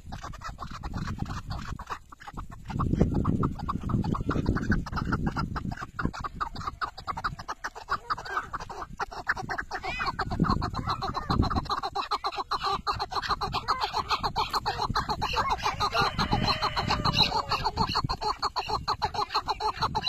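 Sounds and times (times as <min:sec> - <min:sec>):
partridge calling: 0:00.0 - 0:20.0.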